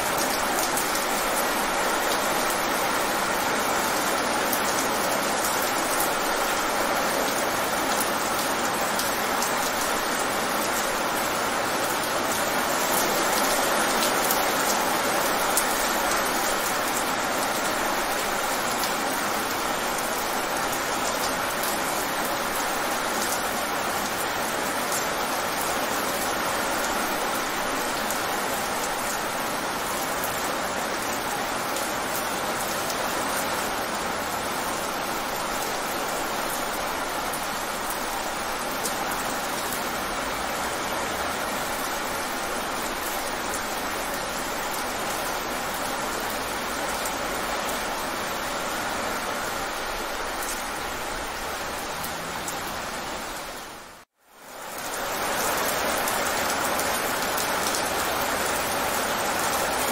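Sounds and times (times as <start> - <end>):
rain splashing on wet pavement: 0.0 - 59.9.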